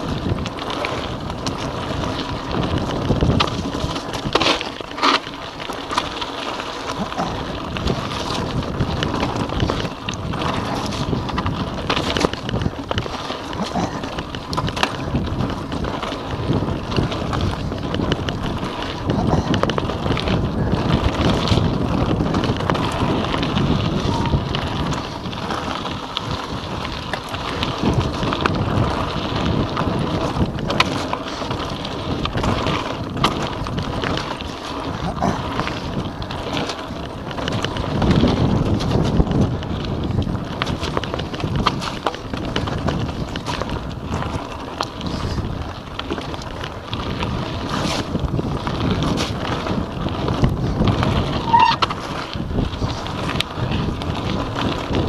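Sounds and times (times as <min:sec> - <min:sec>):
bike knocking and rattling: 0:00.0 - 0:55.0
tyres rolling over wet gravel: 0:00.0 - 0:55.0
wind buffeting microphone: 0:00.0 - 0:55.0.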